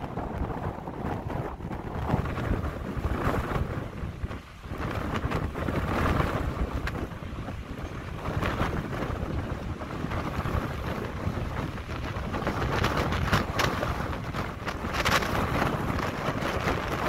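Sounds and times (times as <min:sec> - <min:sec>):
low rumble of passing tanker ship: 0:00.0 - 0:17.0
wind buffeting microphone: 0:00.0 - 0:17.0.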